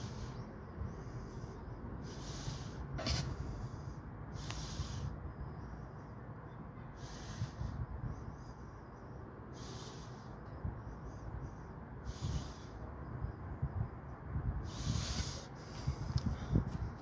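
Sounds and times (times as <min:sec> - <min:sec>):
man breathing hard: 0:00.0 - 0:05.8, 0:06.9 - 0:12.9, 0:14.6 - 0:17.0.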